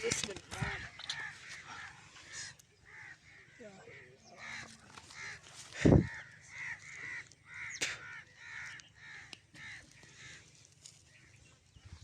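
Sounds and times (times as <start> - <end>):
crows cawing: 0.1 - 11.0.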